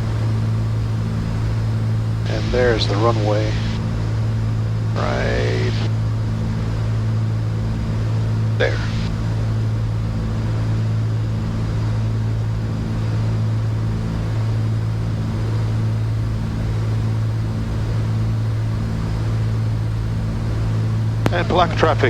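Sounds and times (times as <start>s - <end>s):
airplane propeller engines droning: 0.0s - 22.0s.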